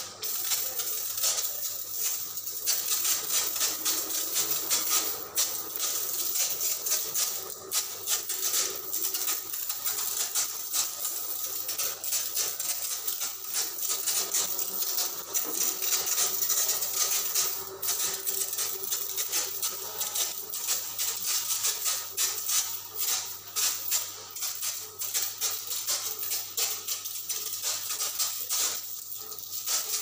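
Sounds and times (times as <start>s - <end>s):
sprayer hissing: 0.0s - 30.0s.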